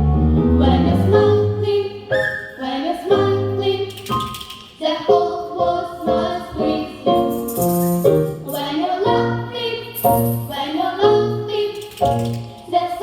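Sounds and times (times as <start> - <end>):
piano chords: 0.0 - 13.0
vocal ensemble singing: 0.4 - 7.3, 8.4 - 13.0.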